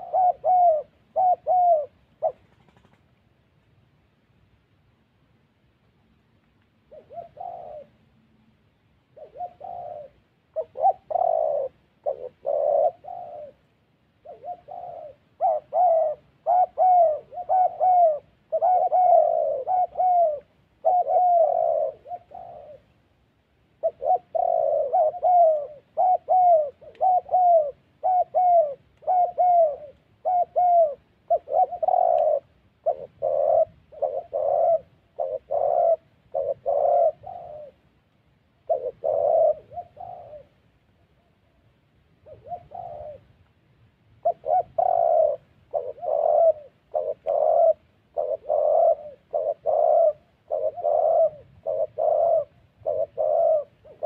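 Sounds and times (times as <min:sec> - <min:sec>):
doves cooing: 0:00.0 - 0:03.1, 0:06.8 - 0:23.0, 0:23.7 - 0:37.9, 0:38.6 - 0:43.4, 0:44.2 - 0:54.0.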